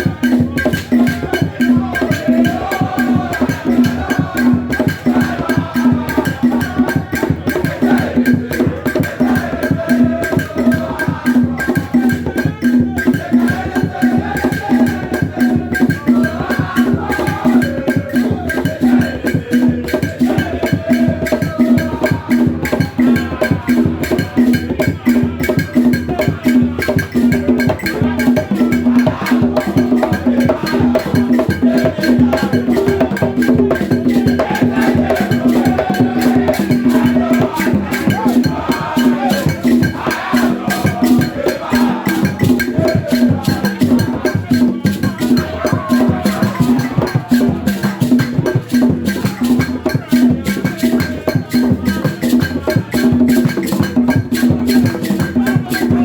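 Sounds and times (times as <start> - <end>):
loud music with fast percussion: 0.0 - 56.0.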